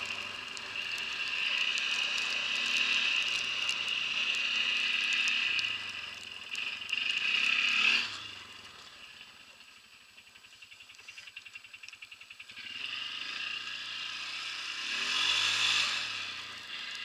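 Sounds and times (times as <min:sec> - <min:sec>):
quad bike engine revving: 0:00.0 - 0:09.3, 0:12.4 - 0:17.0.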